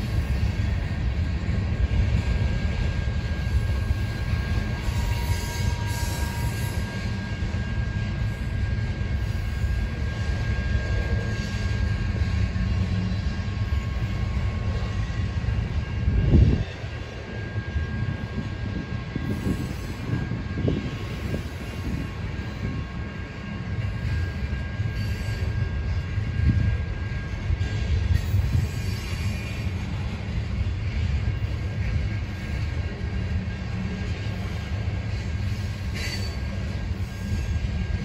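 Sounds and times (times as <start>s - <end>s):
railroad cars rumbling past: 0.0s - 38.0s.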